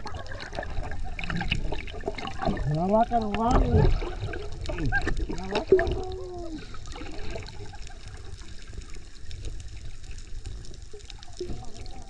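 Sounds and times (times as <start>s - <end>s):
faint clicks and crackles: 0.0s - 12.0s
underwater rumbling wash: 0.0s - 12.0s.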